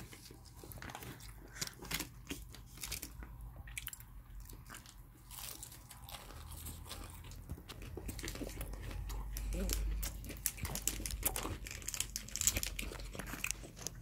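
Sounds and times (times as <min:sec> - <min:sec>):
crunchy chewing of fried chicken: 0:00.0 - 0:14.0.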